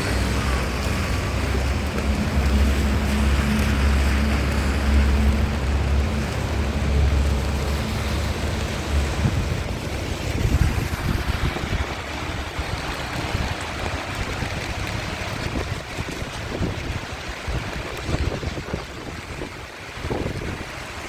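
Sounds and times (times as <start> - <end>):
rain falling on street: 0.0 - 21.0
wind rumbling on microphone: 0.0 - 21.0.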